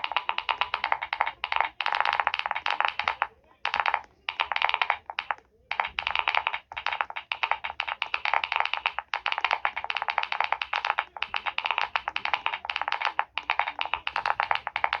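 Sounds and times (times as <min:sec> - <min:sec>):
fast typing on keyboard: 0:00.0 - 0:15.0.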